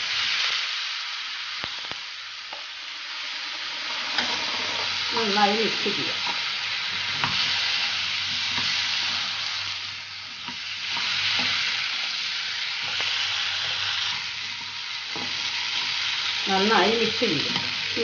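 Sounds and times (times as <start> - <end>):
potatoes sizzling in oil: 0.0 - 18.0.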